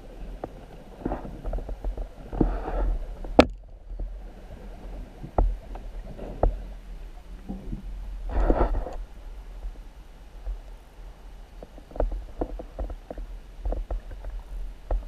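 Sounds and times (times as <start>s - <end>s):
low rumble: 0.0s - 15.0s
underwater water sloshing: 0.0s - 15.0s.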